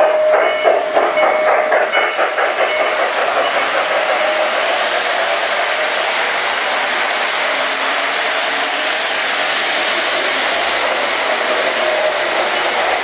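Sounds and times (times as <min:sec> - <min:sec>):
metal wheels on metal rail: 0:00.0 - 0:13.0
model train motors whirring: 0:01.0 - 0:13.0.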